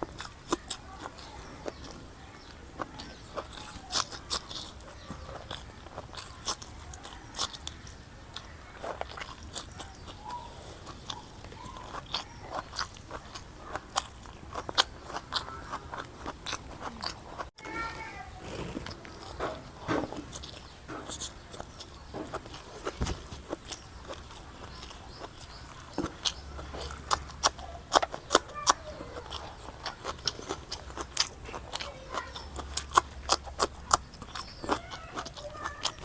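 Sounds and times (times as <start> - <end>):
person chewing and crunching: 0.0 - 36.0.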